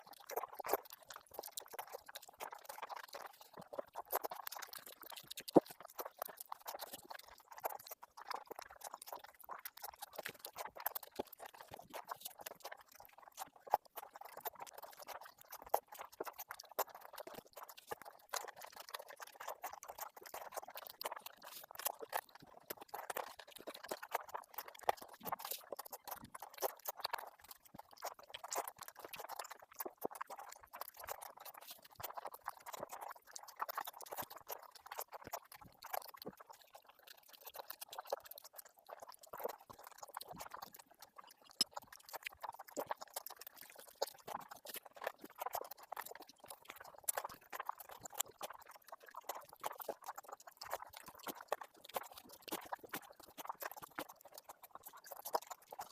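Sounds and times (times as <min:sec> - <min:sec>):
wet chewing and lip-smacking: 0:00.0 - 0:55.9.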